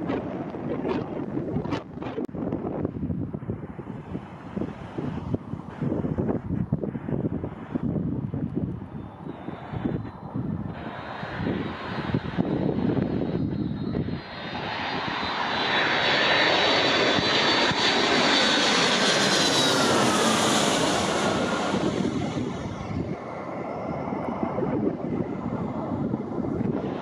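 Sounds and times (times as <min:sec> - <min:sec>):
jet engine roar and whine: 0:00.0 - 0:27.0.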